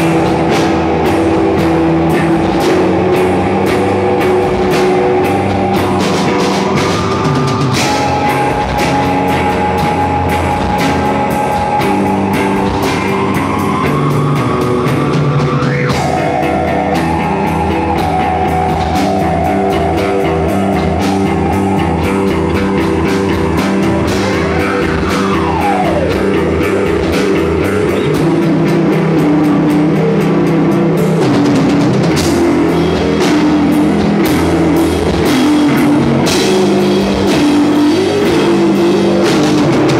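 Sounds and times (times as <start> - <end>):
rock music with drums and guitar: 0.0 - 39.9.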